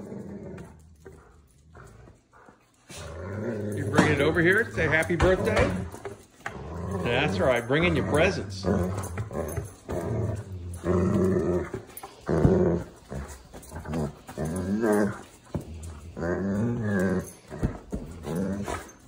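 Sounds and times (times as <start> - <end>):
dogs growling in play: 0.0 - 19.0.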